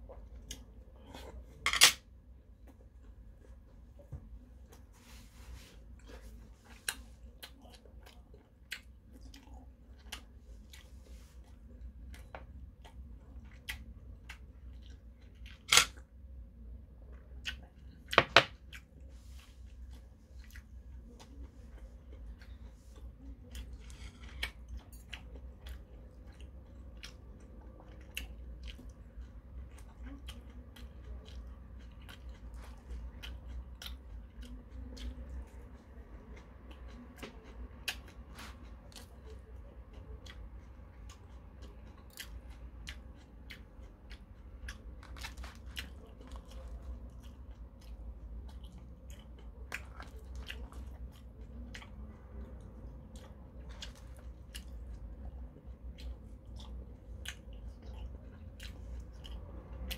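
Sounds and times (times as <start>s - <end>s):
man chewing food: 0.0s - 59.9s.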